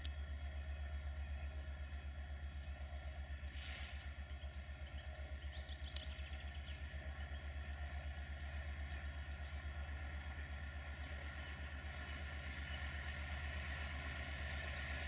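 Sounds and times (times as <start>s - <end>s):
faint bird chirps: 0.0s - 14.8s
diesel locomotive engine idling: 0.0s - 15.0s.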